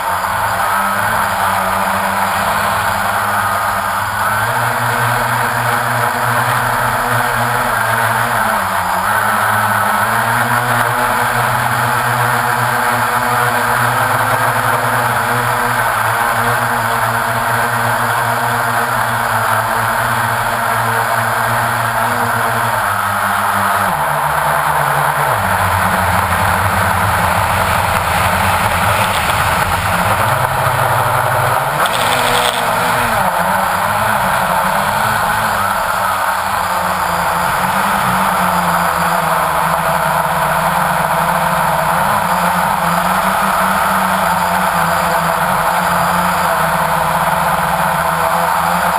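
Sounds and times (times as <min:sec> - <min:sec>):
drone motors and propellers whirring: 0:00.0 - 0:48.9.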